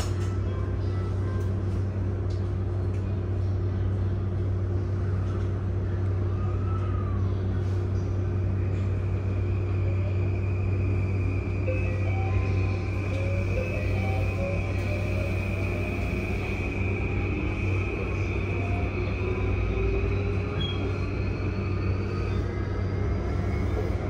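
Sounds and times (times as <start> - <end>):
low hum of train equipment: 0.0 - 24.0.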